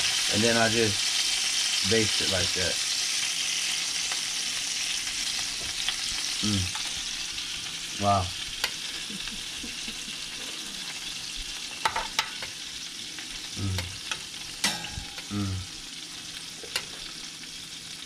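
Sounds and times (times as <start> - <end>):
fish sizzling: 0.0 - 18.0.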